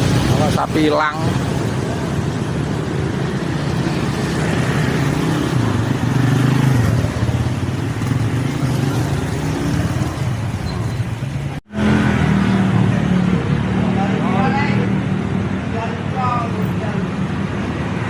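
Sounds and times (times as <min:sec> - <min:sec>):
vehicle engines running: 0:00.0 - 0:18.0.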